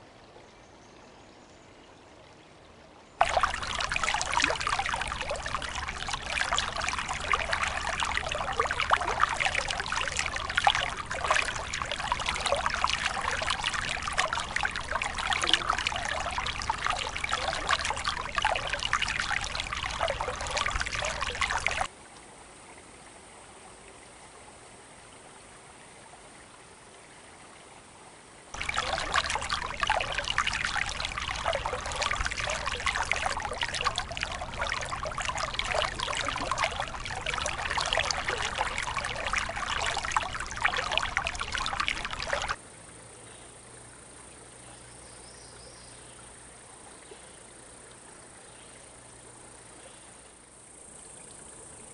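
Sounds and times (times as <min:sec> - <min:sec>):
creek water babbling: 0:00.0 - 0:51.9.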